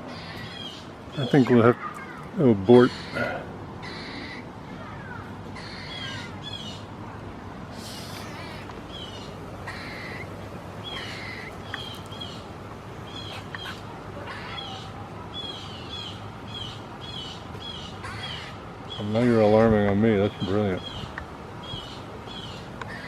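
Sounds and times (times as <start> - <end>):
squirrel harsh nasal calls: 0.0 - 6.9, 7.7 - 19.6, 20.3 - 23.0.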